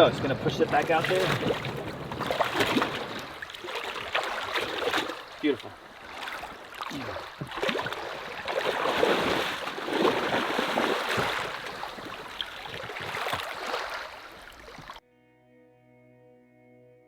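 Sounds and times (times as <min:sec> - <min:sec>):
seawater splashing at shoreline: 0:00.0 - 0:15.0.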